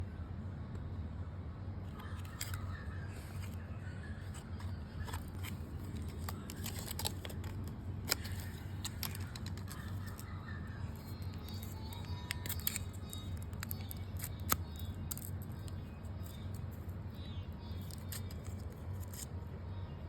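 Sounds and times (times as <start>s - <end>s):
steady low hum: 0.0s - 20.0s
packet clicks and crinkles: 1.9s - 3.6s, 4.2s - 19.4s.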